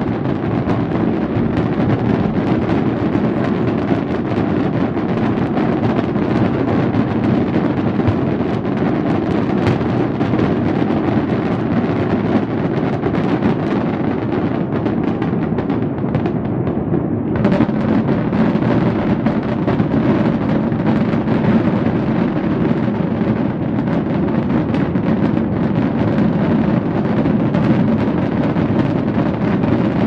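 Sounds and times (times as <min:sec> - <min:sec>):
fireworks booming and cracking: 0:00.0 - 0:30.0.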